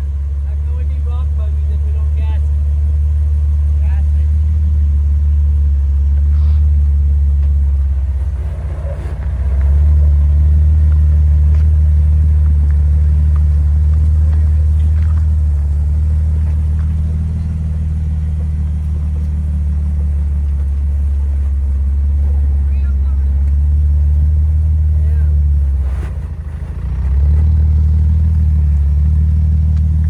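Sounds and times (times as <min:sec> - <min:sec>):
engine low rumble: 0:00.0 - 0:30.0.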